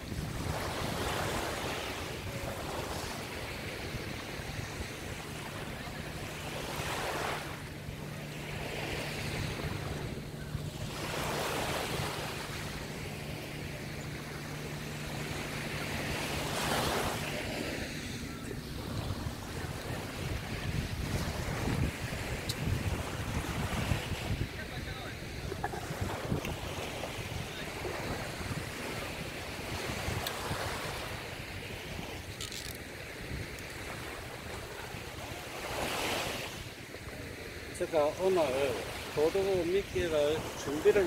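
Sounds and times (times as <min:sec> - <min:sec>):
waves washing up beach: 0:00.0 - 0:41.0.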